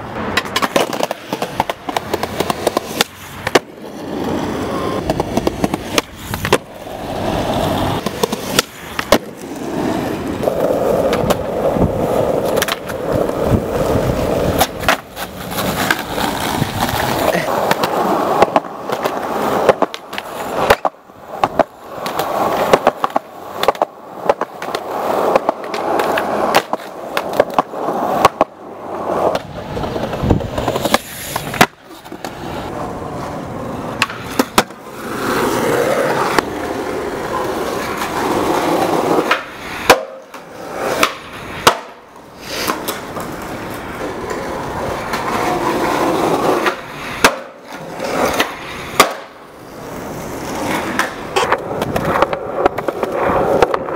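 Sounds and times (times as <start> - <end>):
skateboard clacks and slaps: 0.0 - 53.9
skateboard wheels rolling on concrete: 0.0 - 53.9.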